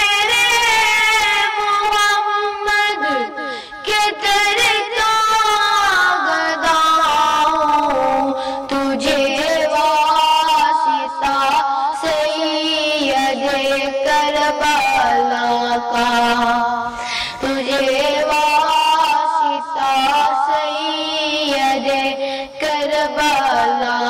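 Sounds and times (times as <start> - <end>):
boy singing slow melody: 0.0 - 24.0.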